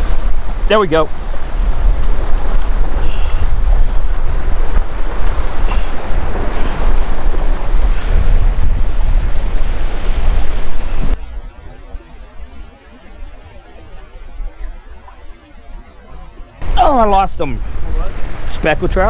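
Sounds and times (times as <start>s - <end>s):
waves splashing against rocks: 0.0s - 19.0s
wind buffeting microphone: 0.0s - 19.0s.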